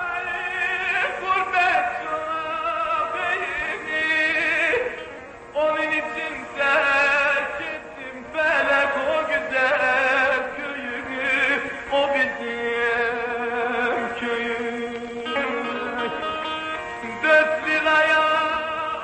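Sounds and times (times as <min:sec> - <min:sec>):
man singing with vibrato: 0:00.0 - 0:19.0
musical accompaniment: 0:00.0 - 0:19.0.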